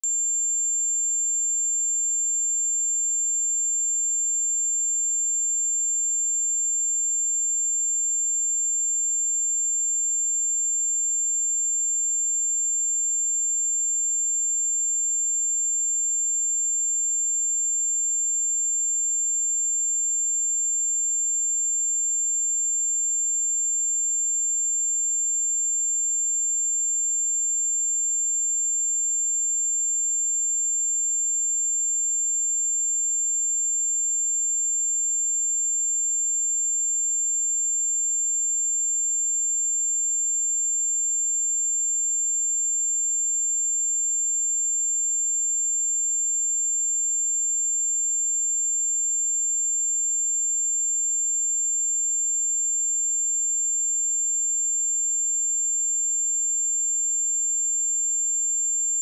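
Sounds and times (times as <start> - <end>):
high-pitched sine test tone: 0.0 - 59.0.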